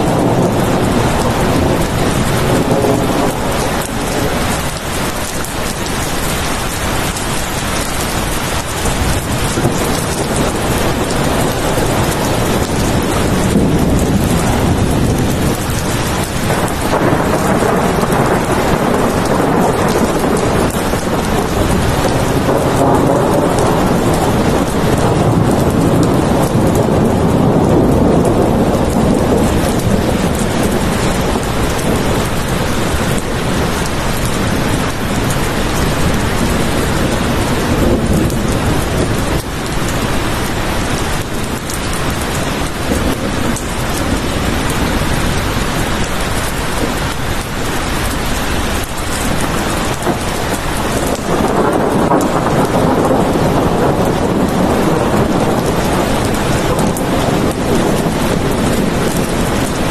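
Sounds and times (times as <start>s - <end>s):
heavy rain: 0.0s - 59.9s
low rolling thunder: 0.0s - 59.9s.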